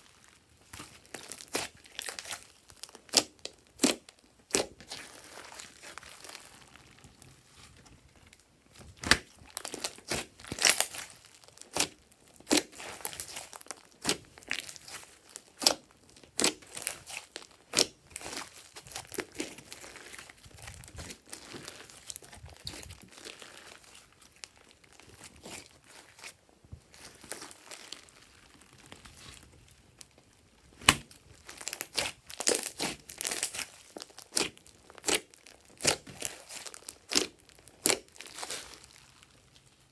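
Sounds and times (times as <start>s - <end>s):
slime squishing and popping: 0.6s - 39.8s.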